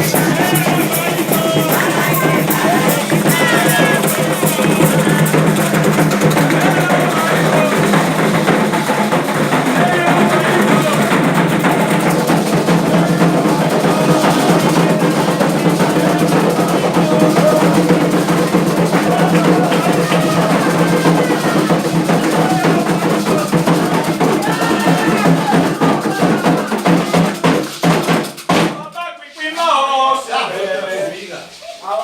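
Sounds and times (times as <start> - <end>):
hand drums and percussion: 0.0 - 29.0
voices singing: 0.0 - 32.0.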